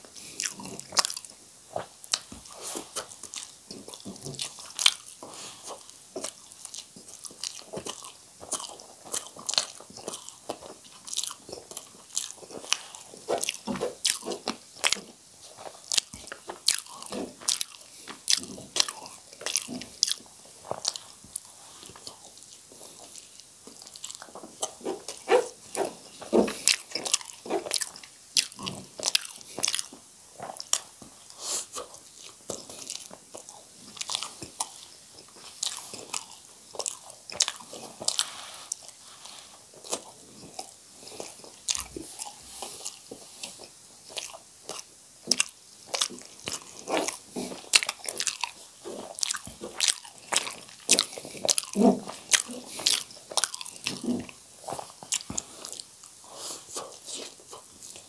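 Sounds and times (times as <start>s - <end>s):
chewing and biting food: 0.2s - 58.0s.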